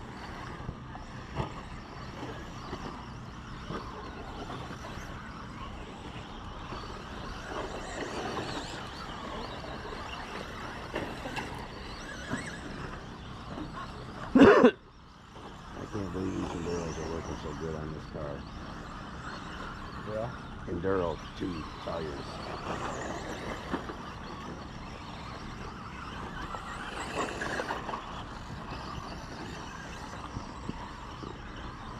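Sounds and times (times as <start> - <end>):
toy truck motors whining: 0.0 - 31.9.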